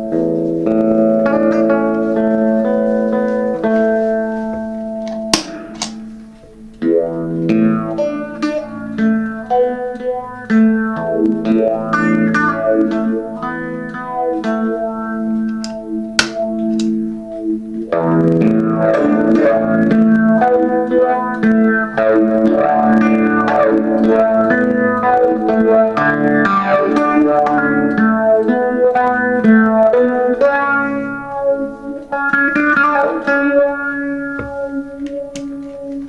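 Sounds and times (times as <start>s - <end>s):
distorted electric guitar riff: 0.0s - 36.0s.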